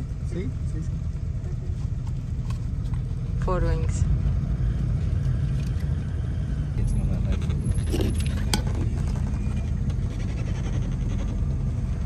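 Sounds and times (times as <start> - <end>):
van engine rumble: 0.0 - 12.0.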